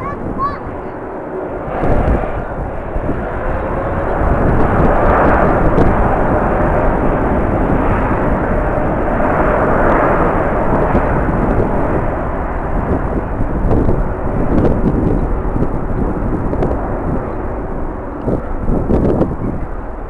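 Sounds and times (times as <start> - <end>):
jet engines roaring: 0.0 - 20.0
wind buffeting microphone: 0.0 - 20.0.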